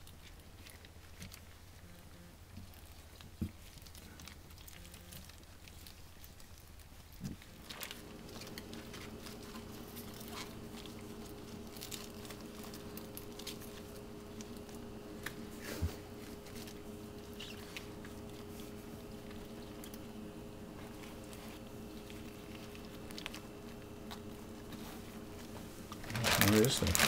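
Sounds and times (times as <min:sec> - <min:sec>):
steady low hum: 0:00.1 - 0:27.0
leaf parcels rustling: 0:02.5 - 0:27.0.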